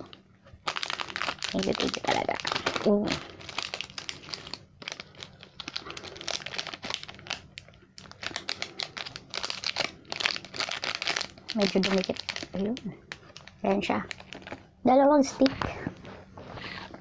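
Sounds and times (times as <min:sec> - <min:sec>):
plastic wrapper crinkling: 0:00.0 - 0:14.7.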